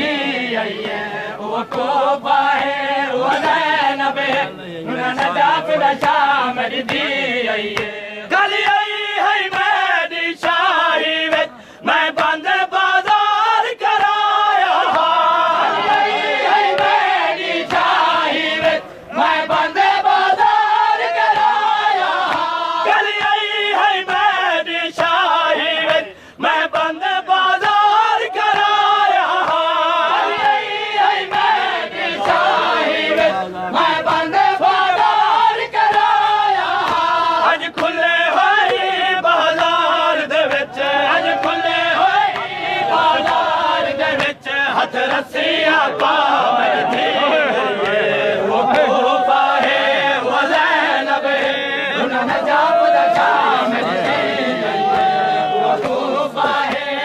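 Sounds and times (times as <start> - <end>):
men chanting in unison: 0.0 - 57.0
hands slapping chests: 0.8 - 3.6, 4.2 - 4.5, 5.1 - 23.5, 25.8 - 33.3, 33.9 - 51.6, 52.2 - 57.0.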